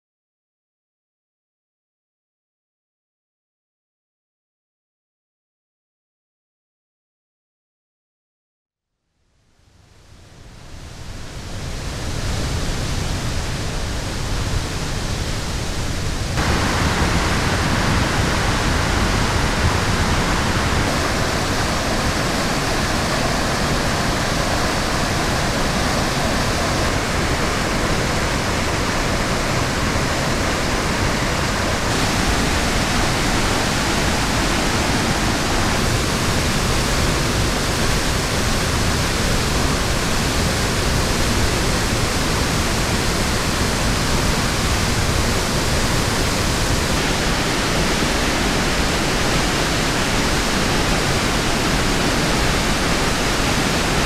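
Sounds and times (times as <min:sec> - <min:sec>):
waterfall rushing over rock: 0:10.6 - 0:54.0.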